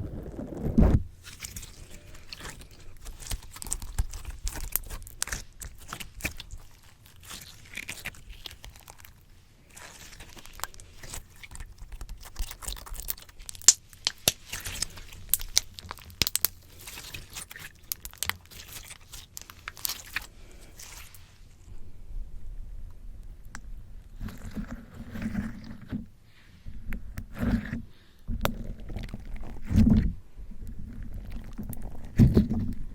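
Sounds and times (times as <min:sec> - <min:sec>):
slime squishing against microphone: 0:00.0 - 0:21.8, 0:22.9 - 0:32.9.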